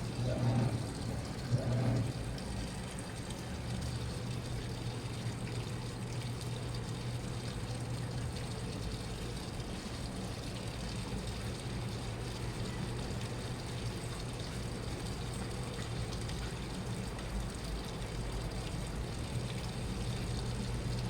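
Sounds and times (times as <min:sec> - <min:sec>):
washing machine running: 0:00.0 - 0:21.0
water moving in drum: 0:00.0 - 0:21.0.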